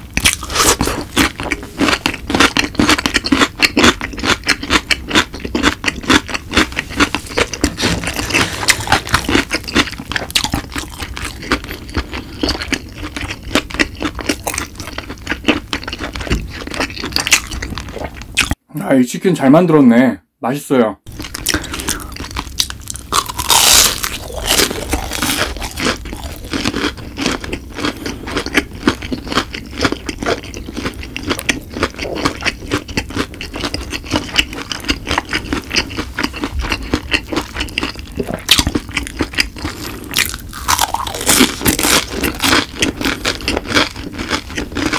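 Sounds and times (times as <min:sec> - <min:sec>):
crunchy chewing: 0:00.1 - 0:18.6, 0:21.1 - 0:44.9.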